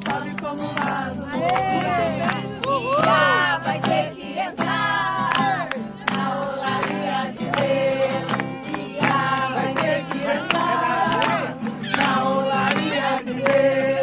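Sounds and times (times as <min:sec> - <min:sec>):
group singing: 0:00.0 - 0:14.0.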